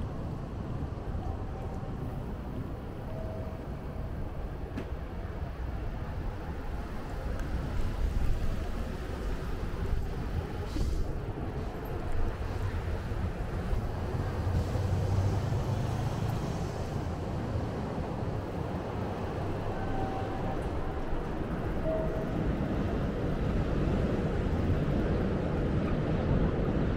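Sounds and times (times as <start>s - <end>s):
low rumble of passing vehicles: 0.0s - 26.9s.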